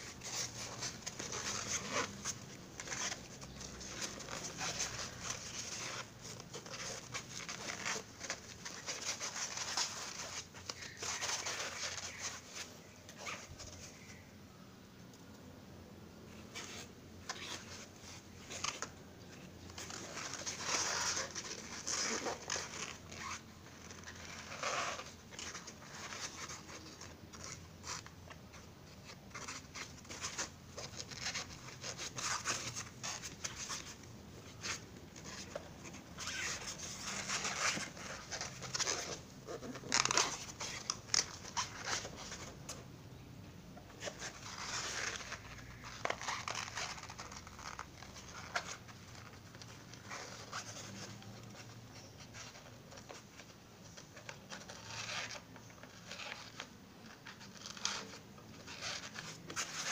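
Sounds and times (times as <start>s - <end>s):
foam sponge rustling and scraping: 0.0s - 14.2s, 16.3s - 42.8s, 43.9s - 59.9s.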